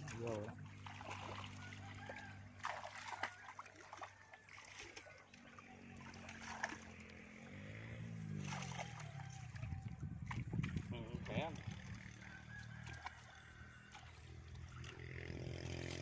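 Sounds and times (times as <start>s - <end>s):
small engine running: 0.0s - 3.8s, 4.6s - 10.0s, 11.0s - 16.0s
water splashing and sloshing: 0.0s - 16.0s.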